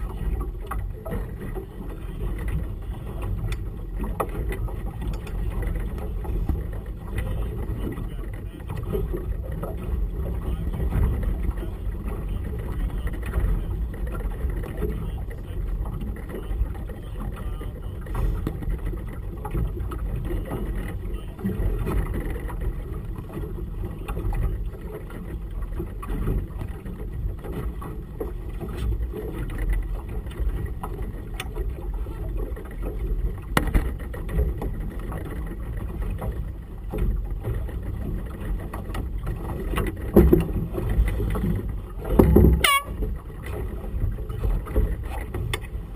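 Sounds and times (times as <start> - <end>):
low rumble of wind and water: 0.0 - 45.9.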